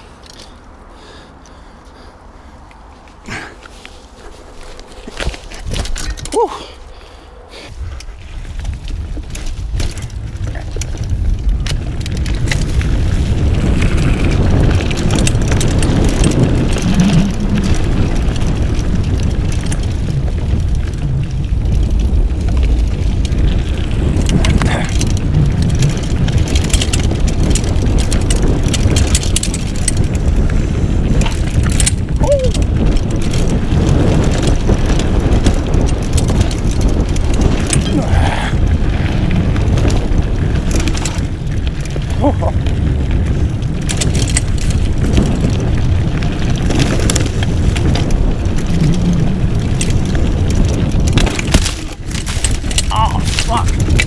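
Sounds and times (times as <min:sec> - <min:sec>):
bike rattling over bumps: 0:00.0 - 0:54.0
wind buffeting microphone: 0:00.0 - 0:54.0.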